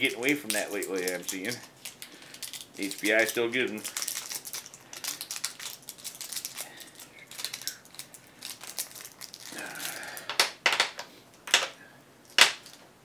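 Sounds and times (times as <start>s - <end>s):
plastic wrapping crinkling and tearing: 0.0s - 11.7s.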